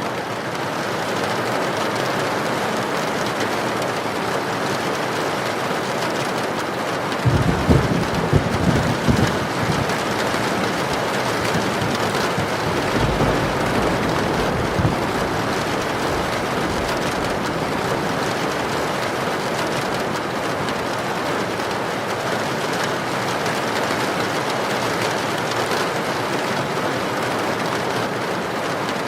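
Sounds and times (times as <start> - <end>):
heavy rain pouring: 0.0 - 29.0
wind: 0.0 - 29.0.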